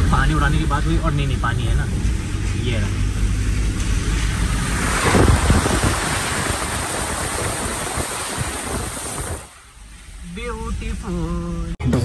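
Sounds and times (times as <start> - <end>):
car driving through floodwater: 0.0 - 11.1.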